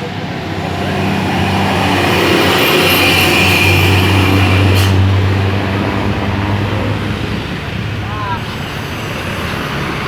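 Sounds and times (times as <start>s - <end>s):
bus passing with roar: 0.0s - 10.0s.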